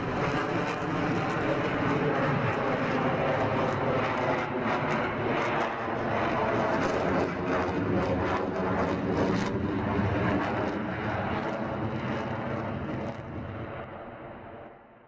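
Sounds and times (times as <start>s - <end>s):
fighter jet engines roaring: 0.0s - 14.8s.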